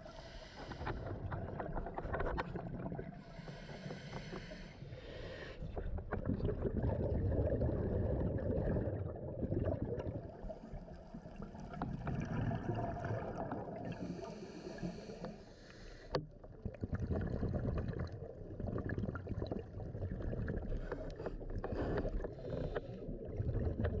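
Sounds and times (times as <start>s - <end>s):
muffled underwater surging water: 0.0s - 24.0s.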